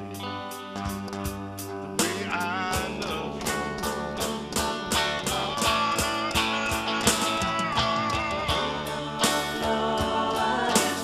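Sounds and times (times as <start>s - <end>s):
live band with guitar: 0.0s - 11.0s.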